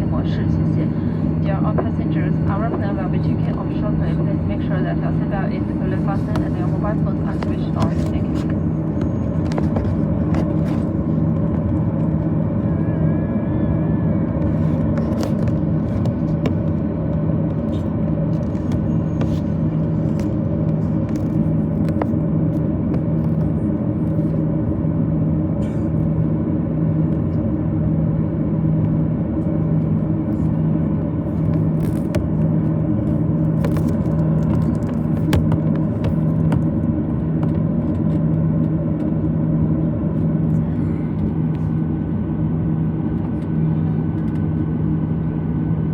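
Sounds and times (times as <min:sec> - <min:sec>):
airplane cabin hum: 0:00.0 - 0:45.9.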